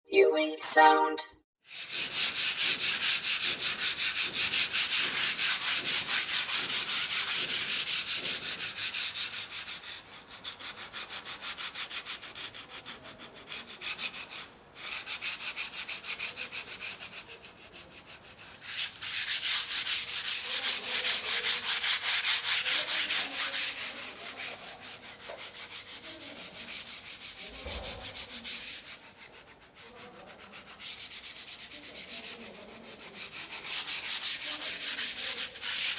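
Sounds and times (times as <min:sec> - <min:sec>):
sandpaper rubbing: 0:01.7 - 0:35.9.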